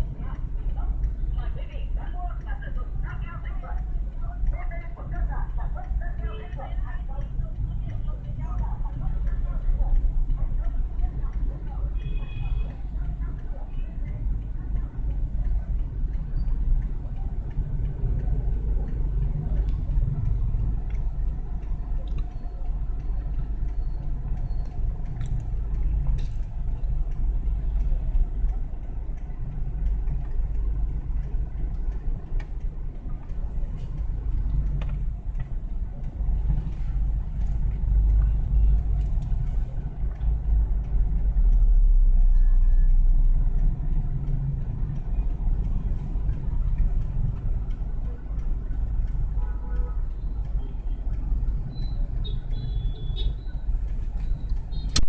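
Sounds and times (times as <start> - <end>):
street traffic rumble: 0.0 - 55.0.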